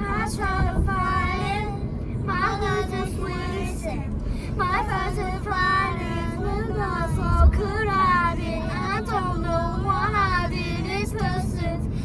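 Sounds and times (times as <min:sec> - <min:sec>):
child singing: 0:00.0 - 0:11.8
steady low rumble: 0:00.0 - 0:12.0.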